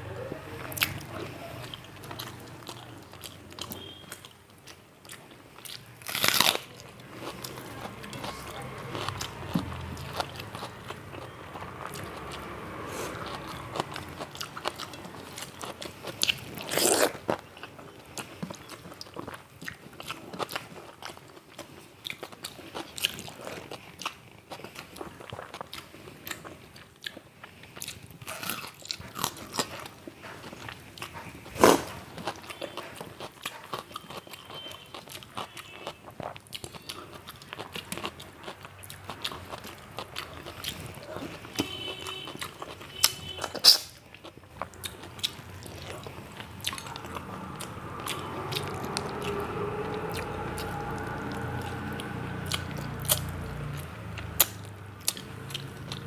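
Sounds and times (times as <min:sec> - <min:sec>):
person chewing crunchy food: 0:00.6 - 0:56.0.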